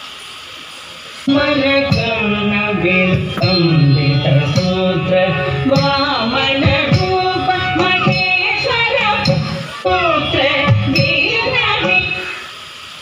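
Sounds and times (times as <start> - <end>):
melody instruments: 1.3 - 12.4
person singing: 1.3 - 12.5.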